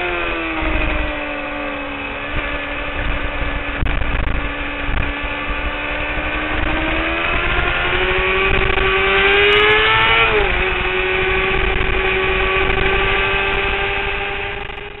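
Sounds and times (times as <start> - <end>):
low wind rumble: 0.0 - 15.0
motorcycle engine revving high: 0.0 - 15.0.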